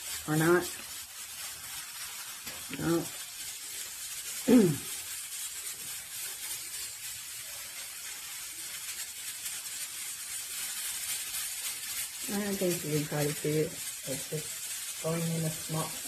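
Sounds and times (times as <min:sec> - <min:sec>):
pressure cooker steam hissing: 0:00.0 - 0:16.0.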